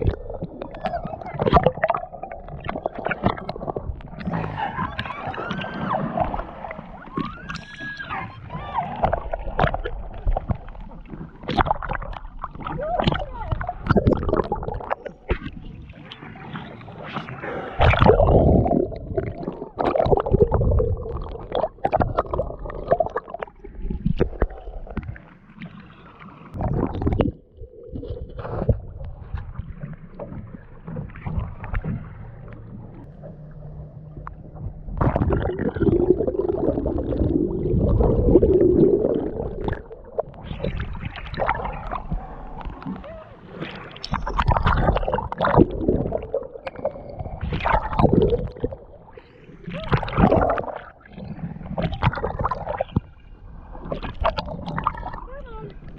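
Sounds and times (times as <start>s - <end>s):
water sloshing around a boat: 0.0s - 55.9s.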